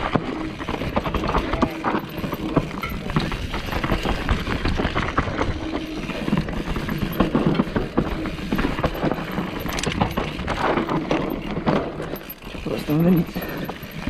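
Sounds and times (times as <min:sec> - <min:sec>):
mountain bike rattling: 0:00.0 - 0:14.0.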